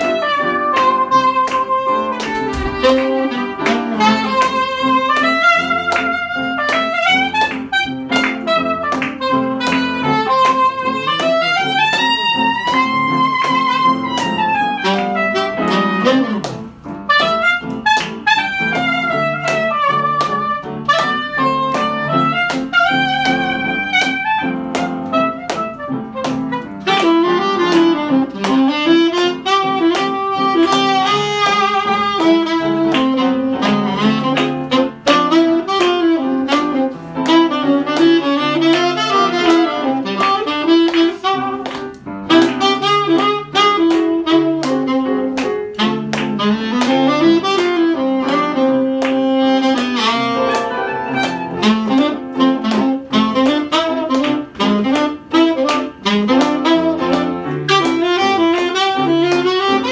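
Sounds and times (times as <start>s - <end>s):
piano accompaniment: 0.0s - 59.9s
saxophone solo: 0.0s - 59.9s.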